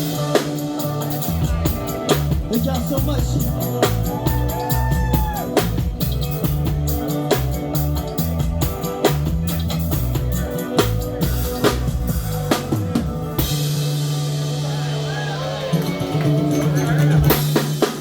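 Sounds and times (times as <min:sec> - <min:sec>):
bass guitar: 0:00.0 - 0:18.0
drum kit: 0:00.0 - 0:18.0.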